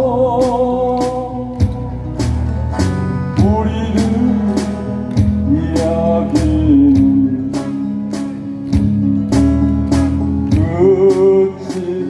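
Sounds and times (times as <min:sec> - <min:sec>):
guitar bass and beat music: 0:00.0 - 0:12.0
person singing pop ballad: 0:00.0 - 0:12.0.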